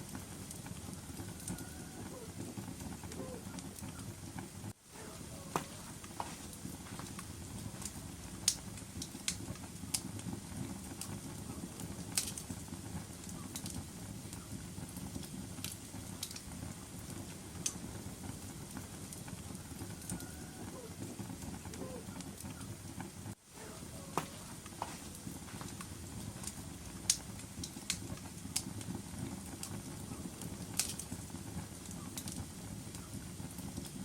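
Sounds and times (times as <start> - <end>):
fire crackling in a fireplace: 0.0 - 34.0.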